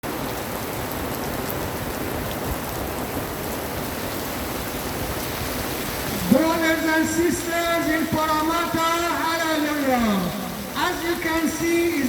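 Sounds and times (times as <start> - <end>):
heavy rain hissing: 0.1 - 12.0.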